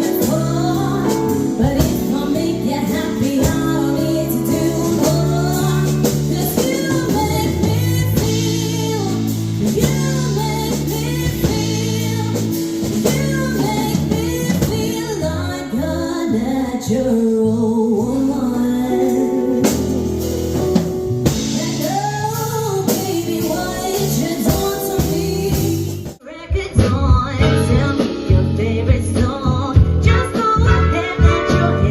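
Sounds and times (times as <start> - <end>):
band accompaniment: 0.0 - 15.8, 18.0 - 31.9
woman singing: 0.0 - 20.2, 21.3 - 31.9.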